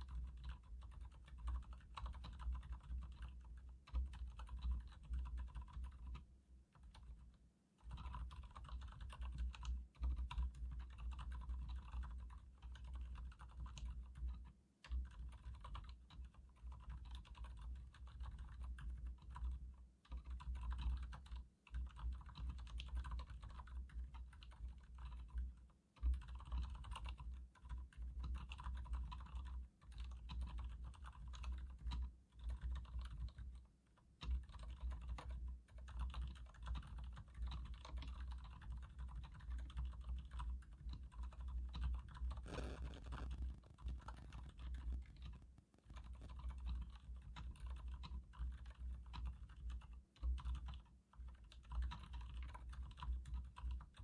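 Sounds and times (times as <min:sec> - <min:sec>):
soft damped keyboard typing: 0:00.0 - 0:54.0.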